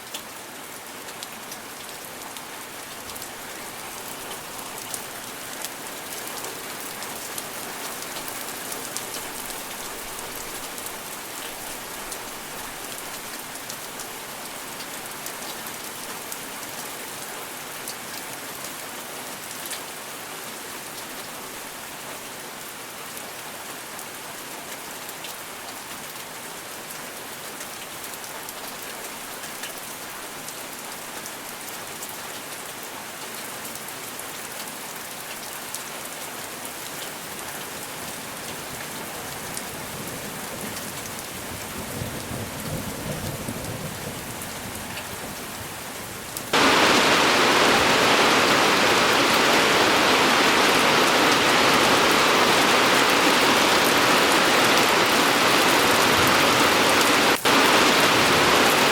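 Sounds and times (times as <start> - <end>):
heavy downpour: 0.0 - 58.9
steady rain falling: 0.0 - 58.9.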